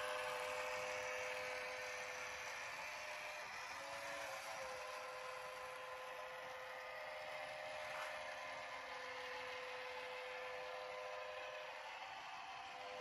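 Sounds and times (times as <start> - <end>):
mechanical hum with whine: 0.0 - 13.0.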